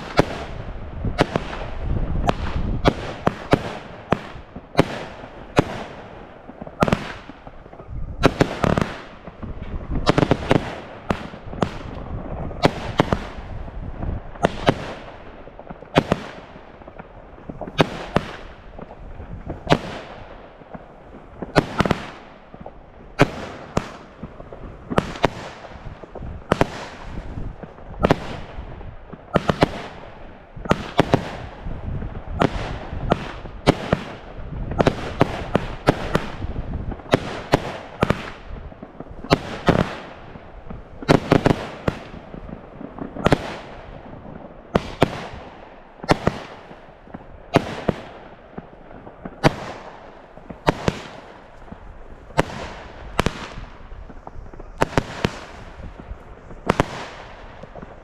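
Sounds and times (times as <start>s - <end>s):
fireworks banging: 0.0s - 58.0s
fireworks crackling hiss: 0.0s - 58.0s.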